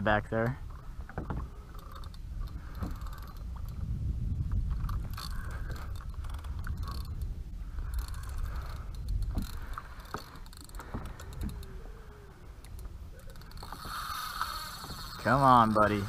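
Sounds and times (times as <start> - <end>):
wind rumble on microphone: 0.0 - 16.0
fishing reel gears whirring and clicking: 0.6 - 16.0.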